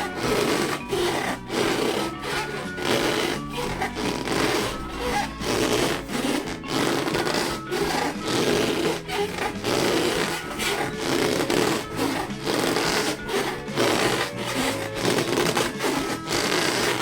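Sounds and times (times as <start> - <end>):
rubber balloons squeaking: 0.0 - 17.0.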